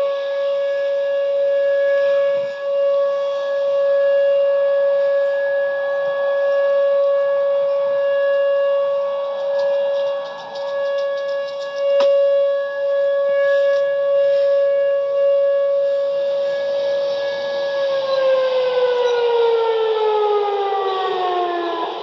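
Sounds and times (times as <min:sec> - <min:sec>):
electronic siren winding down: 0:00.0 - 0:22.0.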